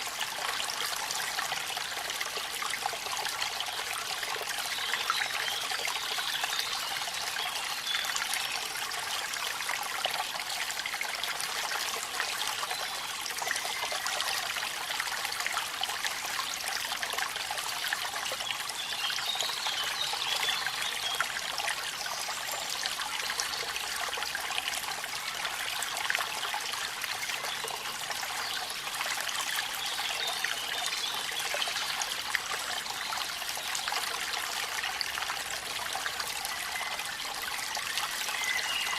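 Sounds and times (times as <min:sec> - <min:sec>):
waterfall: 0:00.0 - 0:38.9.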